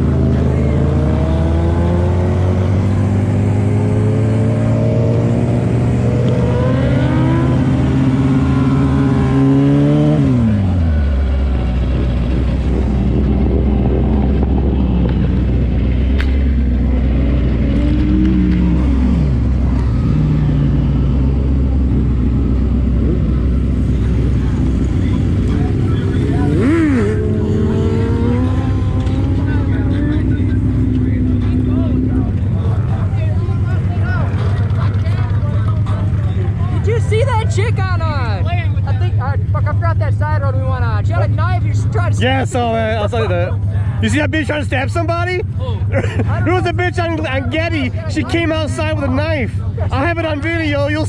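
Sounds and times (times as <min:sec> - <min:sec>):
road and wind noise: 0:00.0 - 0:51.0
vehicle engine revving: 0:00.0 - 0:51.0.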